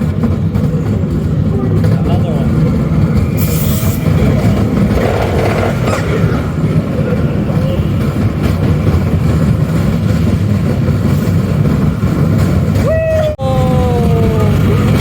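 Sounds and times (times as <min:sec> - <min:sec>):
roller coaster car rumbling on track: 0:00.0 - 0:15.0.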